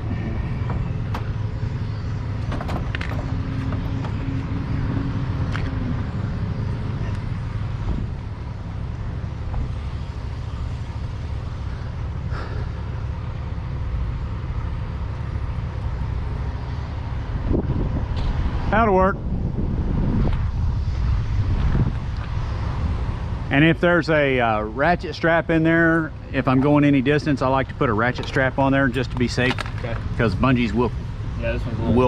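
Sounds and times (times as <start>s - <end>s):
diesel truck engine idling: 0.0s - 18.1s, 22.4s - 32.0s.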